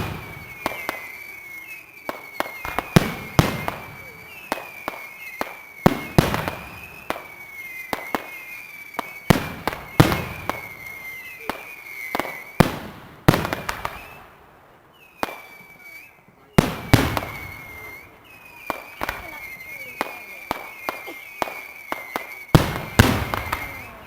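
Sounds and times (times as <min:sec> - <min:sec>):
firework bangs: 0:00.0 - 0:24.0
thin high whistle: 0:00.2 - 0:12.6, 0:14.9 - 0:24.0.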